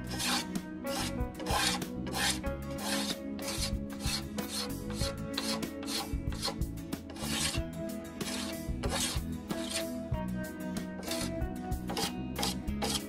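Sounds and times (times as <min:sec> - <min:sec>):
sanding wood rasping: 0:00.0 - 0:07.6, 0:08.2 - 0:10.0, 0:11.0 - 0:13.0.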